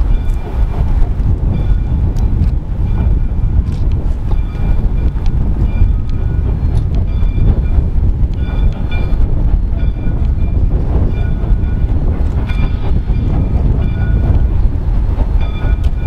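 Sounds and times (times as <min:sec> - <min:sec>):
train clanks: 0:00.0 - 0:16.0
train wheels rumbling on rail: 0:00.0 - 0:16.0.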